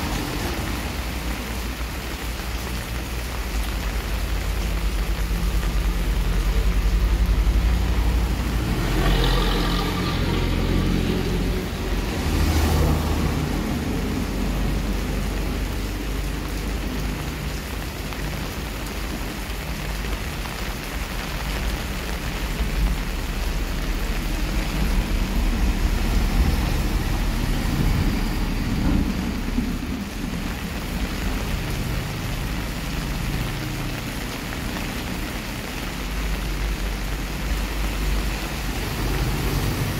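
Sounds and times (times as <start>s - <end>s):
rain on concrete and foliage: 0.0s - 39.9s.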